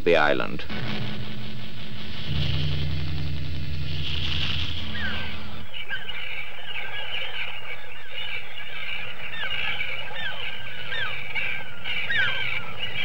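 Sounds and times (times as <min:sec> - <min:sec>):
seabird colony calling: 0:00.8 - 0:13.0.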